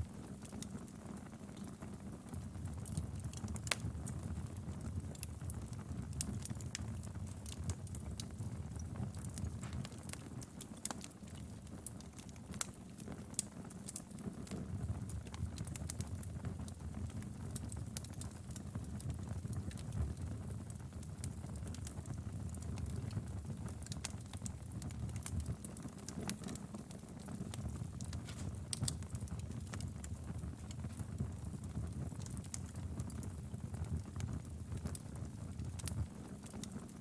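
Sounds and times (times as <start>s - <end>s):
low rumble of flames: 0.0s - 37.0s
wood fire crackling: 0.0s - 37.0s
sharp pops from fire: 5.1s - 37.0s.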